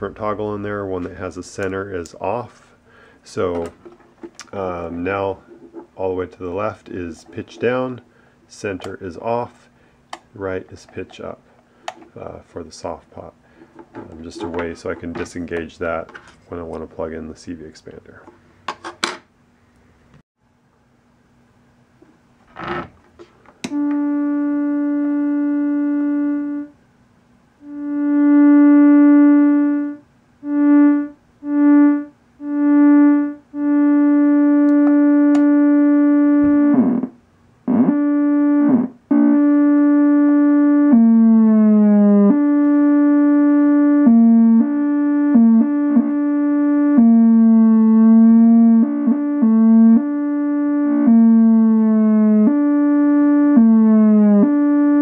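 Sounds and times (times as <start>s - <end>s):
buzzy synthesizer note: 0.0s - 9.7s, 10.3s - 11.4s, 12.2s - 18.0s, 23.6s - 26.8s, 27.6s - 55.0s.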